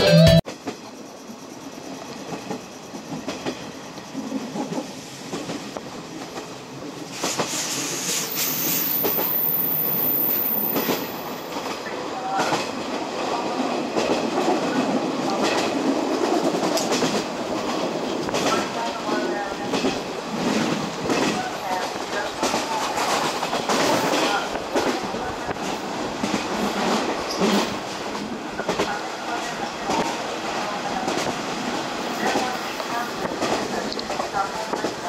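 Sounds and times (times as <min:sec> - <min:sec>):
train wheels on rails: 0:00.5 - 0:35.0.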